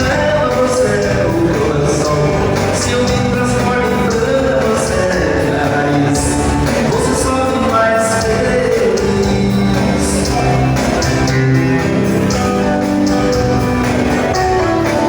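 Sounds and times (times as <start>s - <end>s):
person singing: 0.0s - 12.4s
live dance band music: 0.0s - 15.0s.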